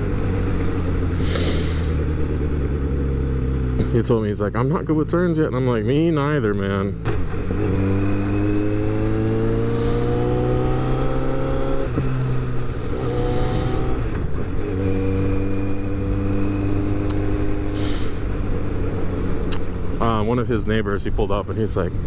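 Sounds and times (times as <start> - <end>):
motorcycle engine accelerating: 0.0 - 20.4.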